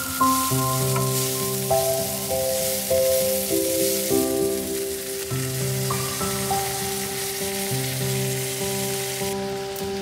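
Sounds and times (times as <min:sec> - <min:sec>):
background music of held notes: 0:00.0 - 0:10.0
vegetables sizzling in a frying pan: 0:00.0 - 0:10.0.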